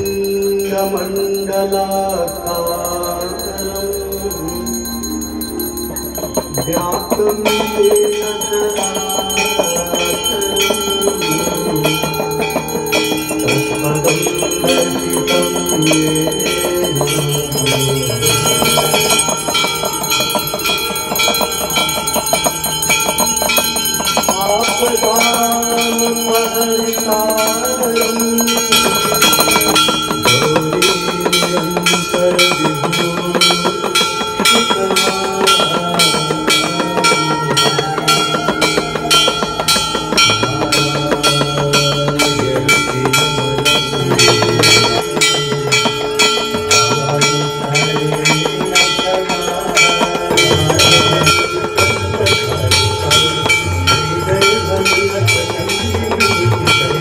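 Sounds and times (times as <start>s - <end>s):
brass bell ringing: 0.0s - 57.0s.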